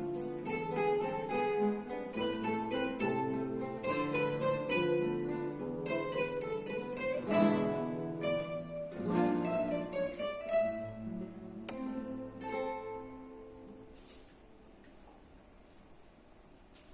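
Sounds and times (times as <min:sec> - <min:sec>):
guitar ensemble playing: 0:00.0 - 0:14.7.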